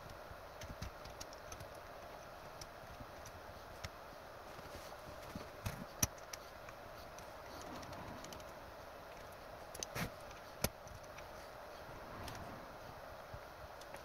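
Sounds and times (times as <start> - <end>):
steady low hiss: 0.0 - 14.0
parts clicking and knocking: 0.1 - 11.4.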